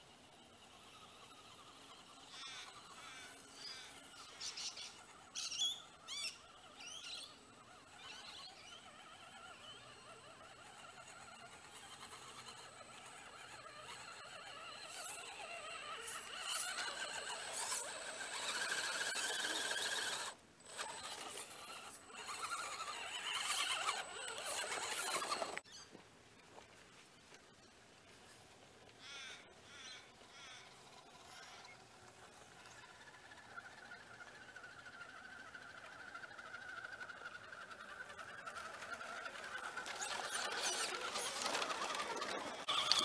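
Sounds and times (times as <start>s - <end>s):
toy truck electric motor whine: 0.0s - 25.6s, 29.0s - 43.0s
birds chirping: 0.0s - 26.0s, 27.1s - 43.0s.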